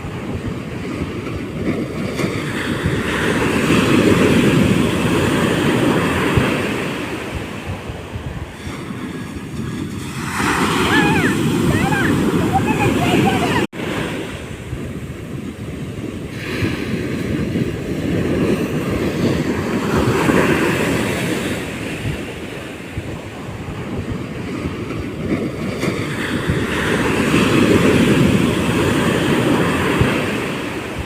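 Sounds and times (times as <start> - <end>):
sea waves washing onto shore: 0.0 - 31.0
wind buffeting microphone: 0.0 - 31.0.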